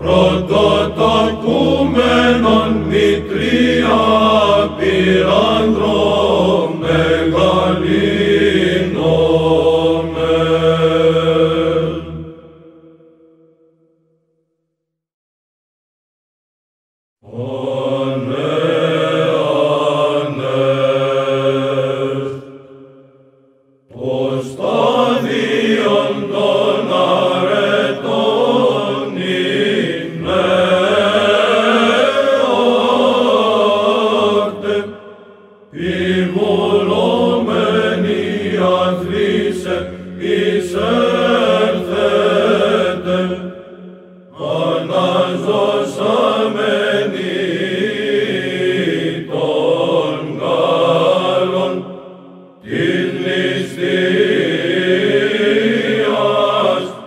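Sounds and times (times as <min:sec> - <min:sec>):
choir chanting unaccompanied: 0:00.0 - 0:13.2, 0:17.2 - 0:23.2, 0:23.9 - 0:57.0.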